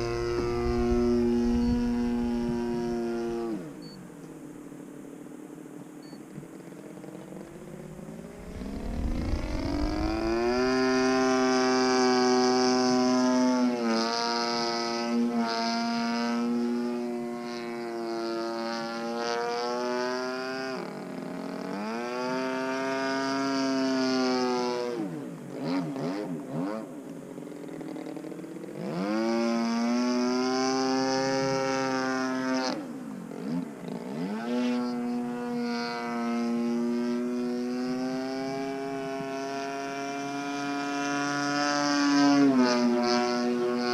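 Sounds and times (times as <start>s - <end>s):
model plane engine revving: 0.0s - 3.8s, 6.7s - 43.9s.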